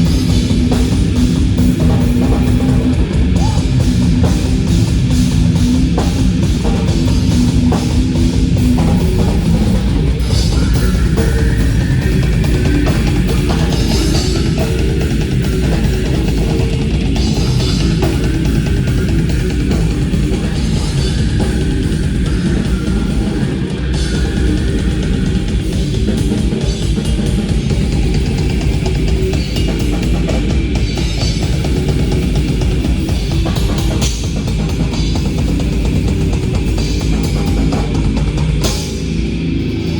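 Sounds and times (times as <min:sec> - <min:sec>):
distorted guitars: 0:00.0 - 0:39.9
fast dense drumming: 0:00.0 - 0:39.9.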